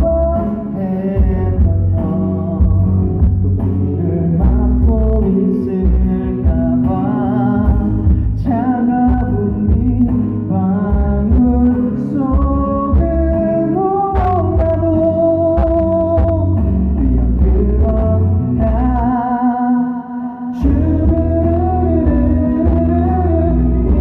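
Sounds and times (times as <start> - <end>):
instrumental backing track: 0.0 - 24.0
person singing: 0.0 - 24.0.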